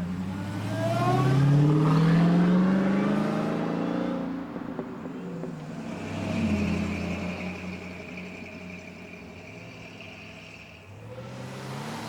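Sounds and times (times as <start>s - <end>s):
car accelerating away: 0.0s - 12.0s
second car engine: 0.0s - 12.0s.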